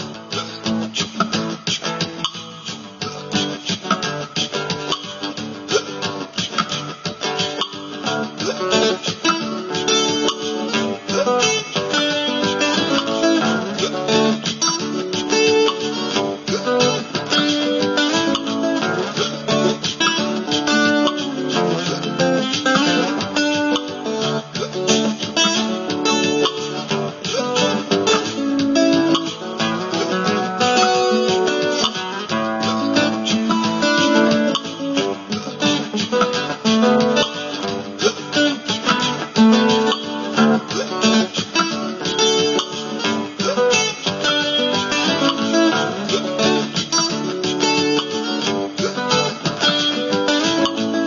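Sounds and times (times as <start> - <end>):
layered guitar loops: 0.0 - 51.0.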